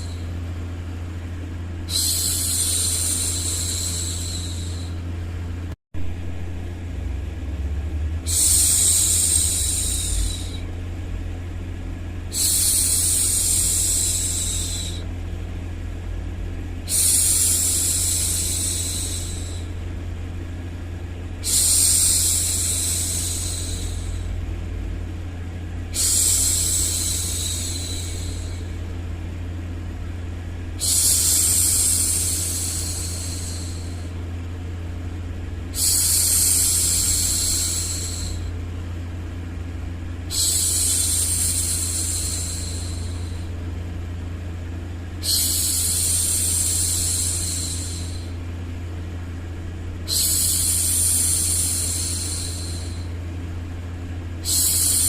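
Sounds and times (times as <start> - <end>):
white noise with low hum: 0.0 - 55.0.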